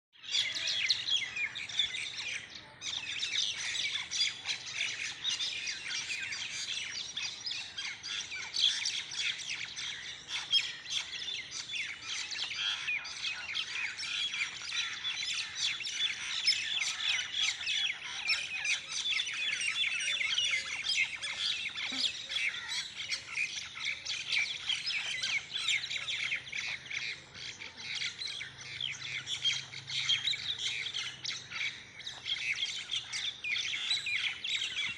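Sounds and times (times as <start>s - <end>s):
birds squawking and chirping: 0.2s - 34.9s.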